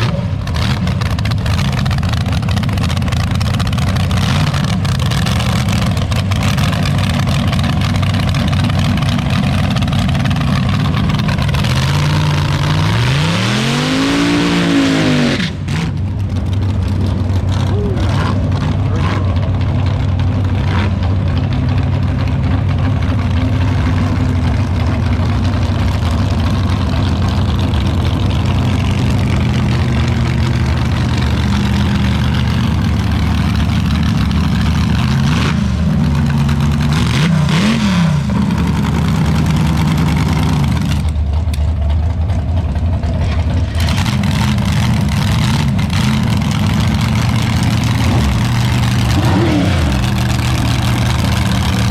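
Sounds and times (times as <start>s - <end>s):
dragster engine idling: 0.0s - 13.2s, 15.9s - 37.2s, 38.2s - 51.9s
engine throttle blips: 0.0s - 51.9s.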